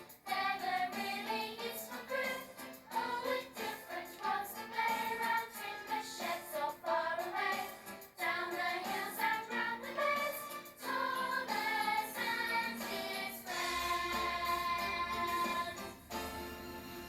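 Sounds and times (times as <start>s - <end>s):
choir singing: 0.0s - 16.5s.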